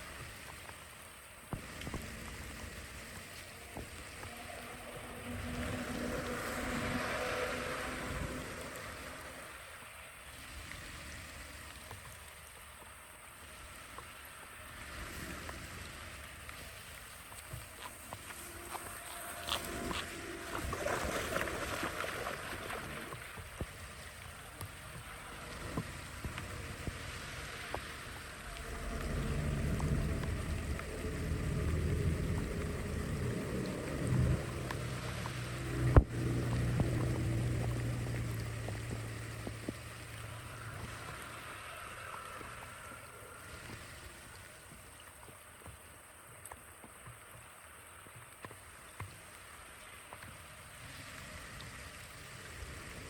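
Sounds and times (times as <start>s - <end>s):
floodwater rushing into drain: 0.0s - 53.0s
running water: 0.0s - 53.0s.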